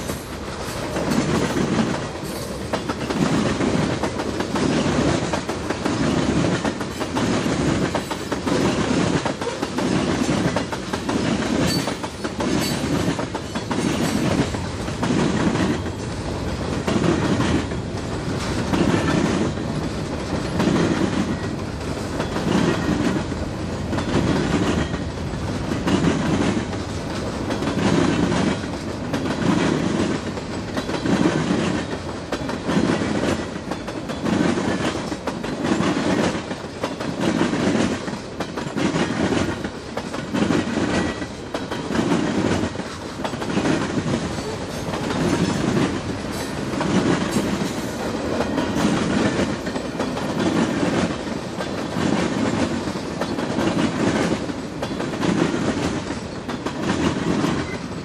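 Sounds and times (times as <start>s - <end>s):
train rumble: 0.0s - 58.0s
train wheels clacking over rail joints: 0.0s - 58.0s.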